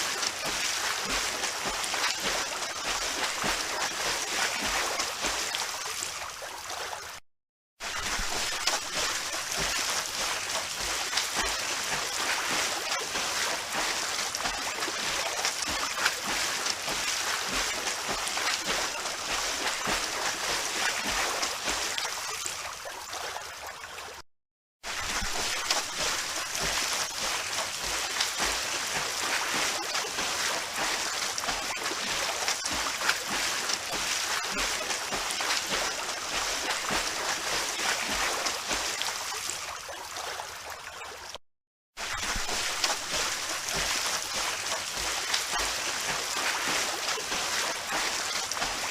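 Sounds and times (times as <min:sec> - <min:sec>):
water splashing from swimming: 0:00.0 - 0:07.2, 0:07.8 - 0:24.2, 0:24.8 - 0:41.4, 0:42.0 - 0:48.9.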